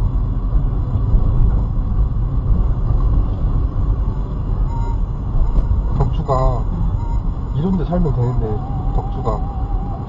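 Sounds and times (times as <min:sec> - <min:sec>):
car engine rumble: 0:00.0 - 0:10.0
road noise: 0:00.0 - 0:10.0.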